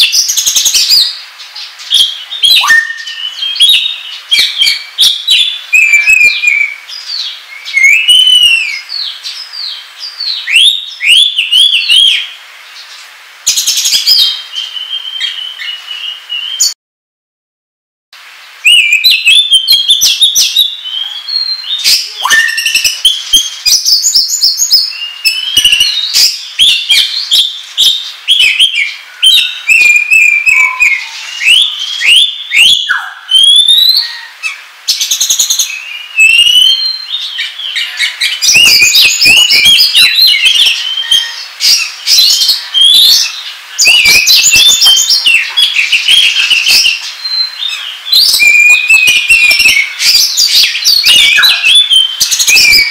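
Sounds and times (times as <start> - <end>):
magpie-robin singing: 1.9 - 12.3, 18.6 - 52.9.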